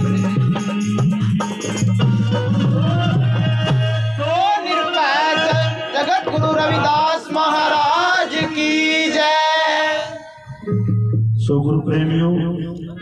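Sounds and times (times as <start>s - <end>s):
man singing devotional song: 0.0s - 10.5s, 11.4s - 13.0s
musical accompaniment: 0.0s - 13.0s.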